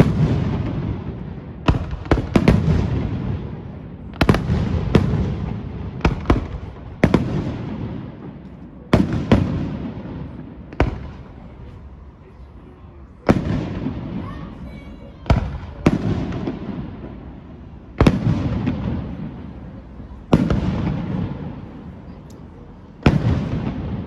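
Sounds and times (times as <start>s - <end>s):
fireworks bursting with echo: 0.0s - 24.0s.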